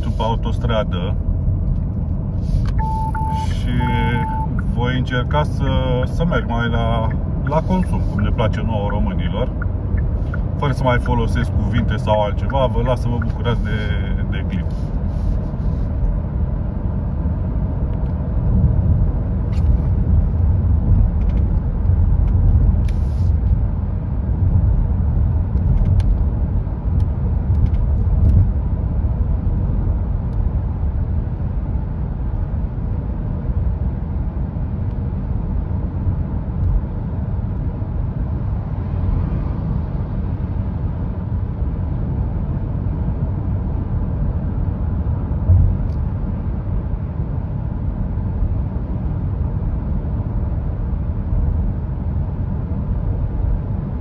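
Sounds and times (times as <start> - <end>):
road and tyre rumble in car: 0.0 - 54.0.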